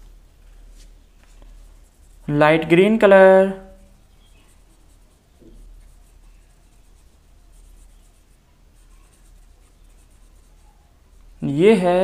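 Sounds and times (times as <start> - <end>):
low steady hum: 0.0 - 12.0
paintbrush scratching on paper: 0.6 - 2.9, 3.6 - 11.9.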